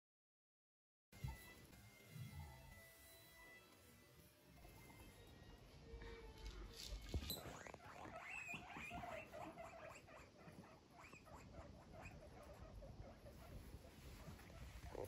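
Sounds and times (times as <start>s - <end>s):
guinea pigs squeaking: 1.2s - 15.0s.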